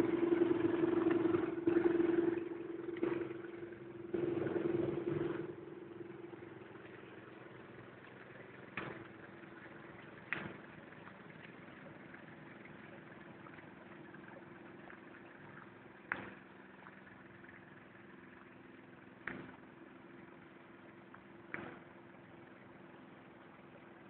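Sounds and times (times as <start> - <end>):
engine humming: 0.0 - 24.0.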